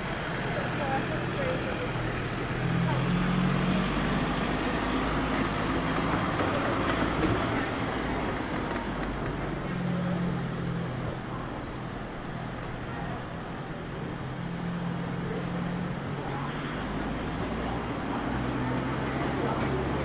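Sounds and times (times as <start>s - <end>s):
low engine hum: 0.0s - 20.0s
passing road traffic: 0.0s - 20.0s.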